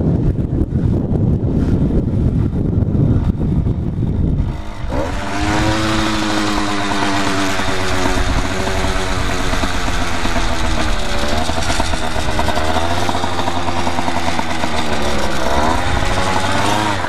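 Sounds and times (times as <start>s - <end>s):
wind buffeting microphone: 0.0s - 17.0s
two-stroke engine revving: 3.2s - 17.0s.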